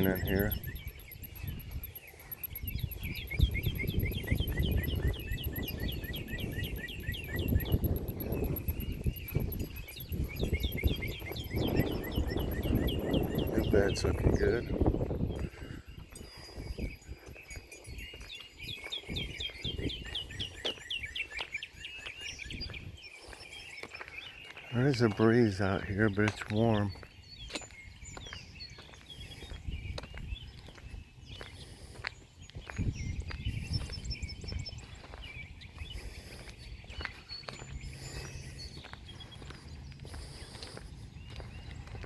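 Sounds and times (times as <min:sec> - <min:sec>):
songbird chirping: 0:00.0 - 0:42.0.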